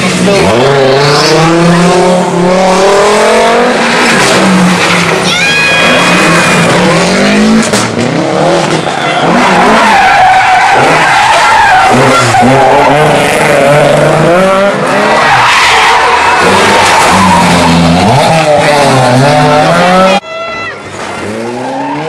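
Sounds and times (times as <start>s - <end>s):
rally car engines revving: 0.0s - 20.2s, 20.8s - 22.0s.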